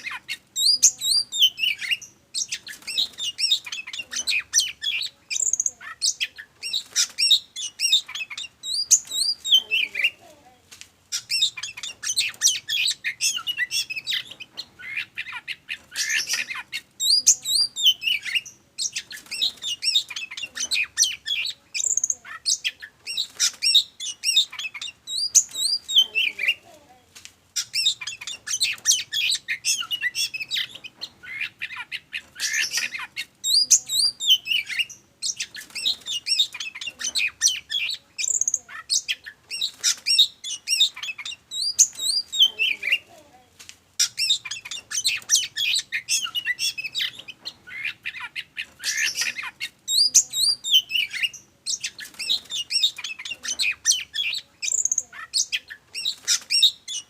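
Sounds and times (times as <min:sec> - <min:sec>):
bird song with whistles and squawks: 0:00.0 - 0:10.2, 0:11.1 - 0:26.6, 0:27.6 - 0:43.1, 0:44.0 - 0:57.0.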